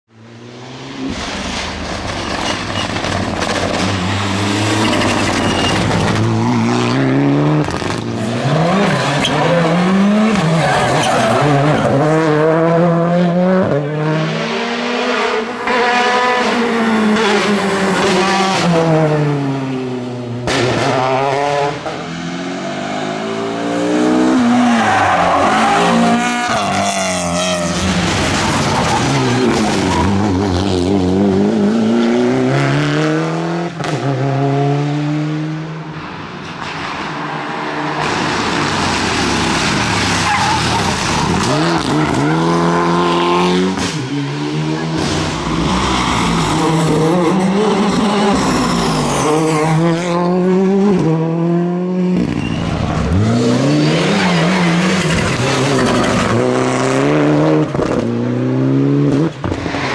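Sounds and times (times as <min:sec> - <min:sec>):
rally car engines revving: 0:00.1 - 0:59.9.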